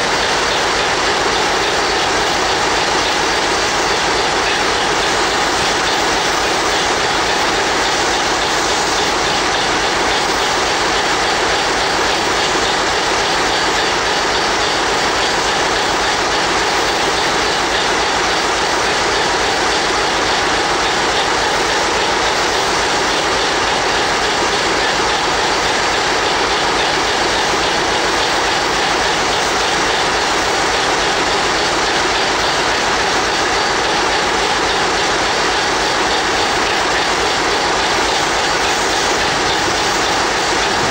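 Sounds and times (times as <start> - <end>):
diesel locomotive engine idling: 0.0 - 40.9
steam locomotive hissing: 0.0 - 40.9.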